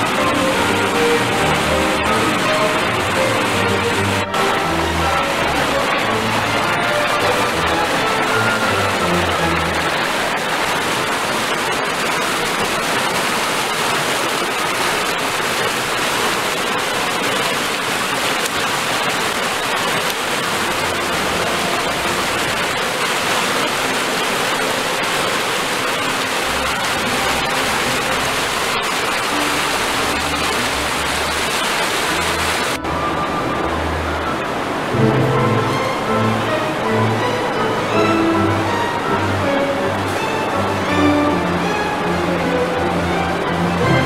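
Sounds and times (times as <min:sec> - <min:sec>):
rushing stream water: 0:00.0 - 0:44.0.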